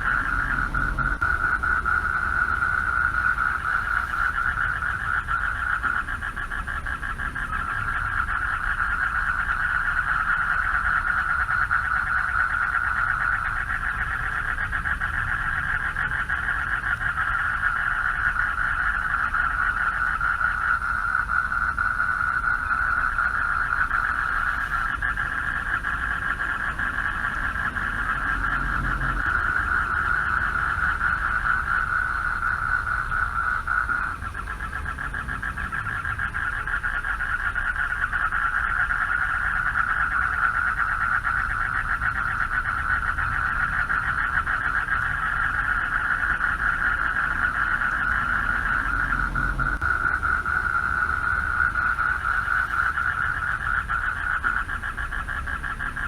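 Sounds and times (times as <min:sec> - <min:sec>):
frogs chorus pulsing: 0:00.0 - 0:56.0.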